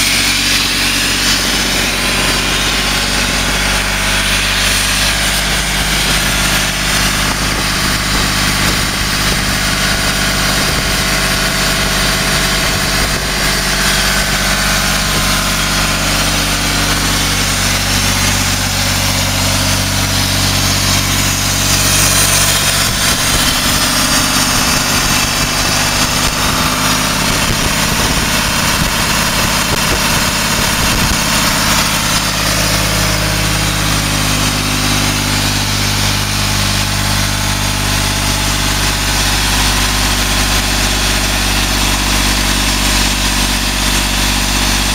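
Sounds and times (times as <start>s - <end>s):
diesel air compressor running: 0.0s - 44.9s.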